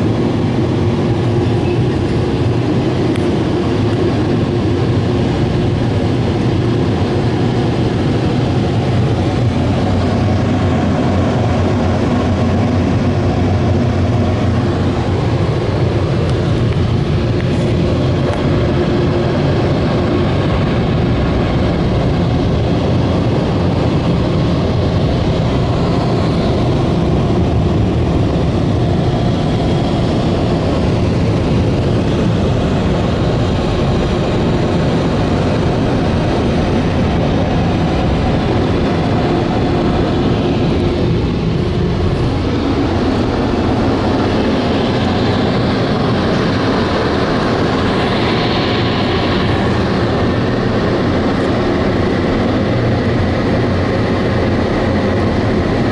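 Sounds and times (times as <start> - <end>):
car wash machine rushing noise: 0.0 - 55.9.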